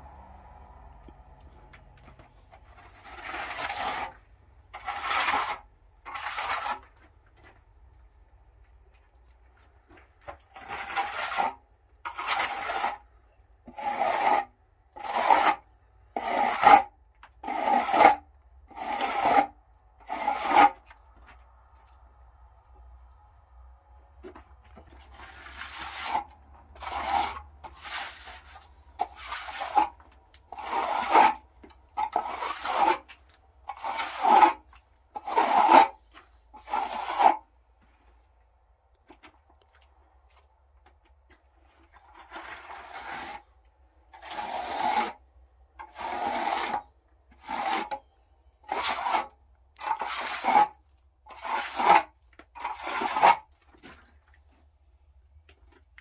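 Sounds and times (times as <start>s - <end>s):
trowel scraping plaster: 2.2s - 7.6s, 9.6s - 22.0s, 24.2s - 38.1s, 41.2s - 54.6s.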